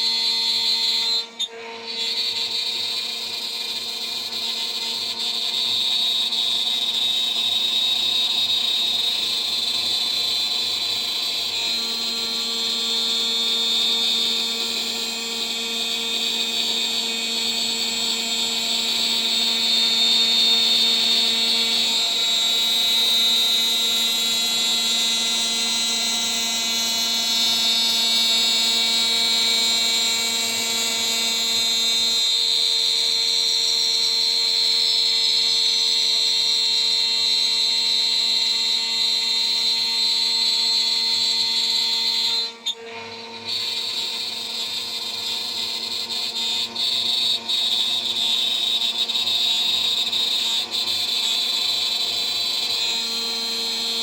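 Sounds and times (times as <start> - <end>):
router spindle whining while milling: 0.0 - 54.0.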